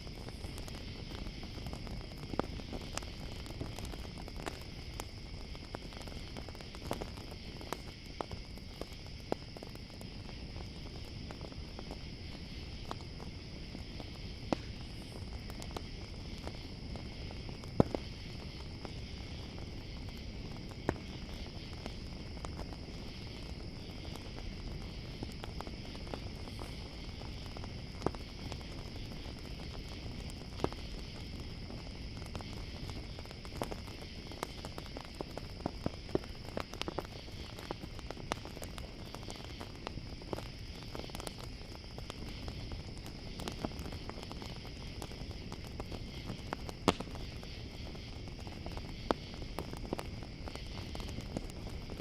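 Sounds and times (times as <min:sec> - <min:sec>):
campfire crackling and popping: 0:00.0 - 0:52.0
crickets chirping: 0:00.0 - 0:52.0.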